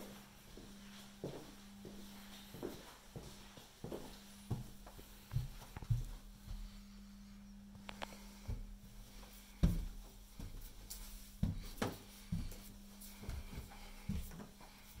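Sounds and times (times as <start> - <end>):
faint low hum: 0.0 - 15.0
footsteps on carpeted stairs: 0.1 - 7.0, 7.8 - 15.0.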